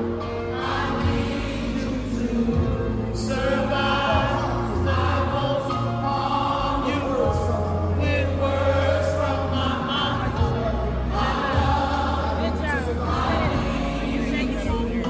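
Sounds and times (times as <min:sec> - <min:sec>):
choir singing: 0:00.0 - 0:15.0
steady bass line: 0:00.0 - 0:15.0.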